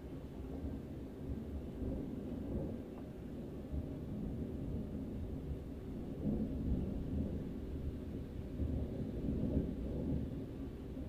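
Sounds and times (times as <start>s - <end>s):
thunder rumbling: 0.5s - 11.0s.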